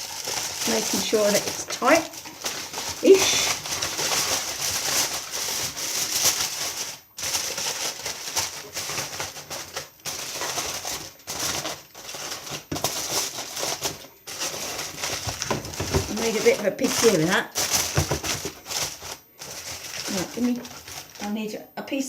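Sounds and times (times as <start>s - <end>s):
aluminium foil crinkling: 0.0s - 21.6s.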